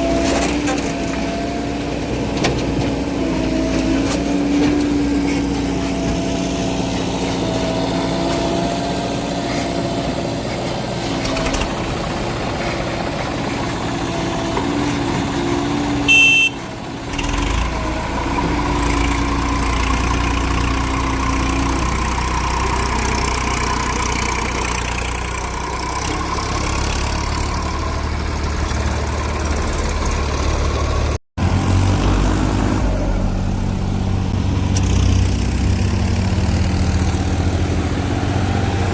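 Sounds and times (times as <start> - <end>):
diesel machinery engine running: 0.0 - 38.9.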